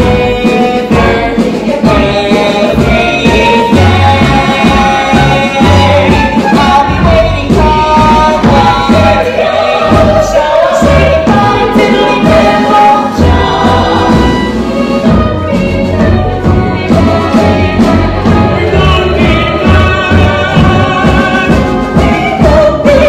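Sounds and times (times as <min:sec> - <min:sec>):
band accompaniment with steady beat: 0:00.0 - 0:23.0
ensemble singing in chorus: 0:00.0 - 0:23.0.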